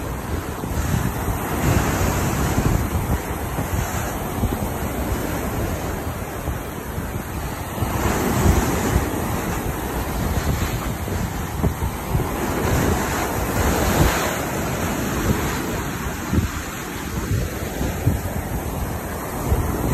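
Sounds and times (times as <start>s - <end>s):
surf breaking on sand: 0.0s - 19.9s
wind buffeting microphone: 0.0s - 19.9s.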